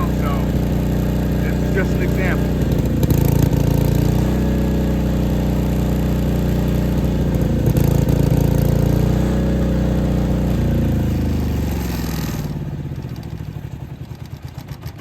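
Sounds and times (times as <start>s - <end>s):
diesel generator engine running: 0.0s - 15.0s.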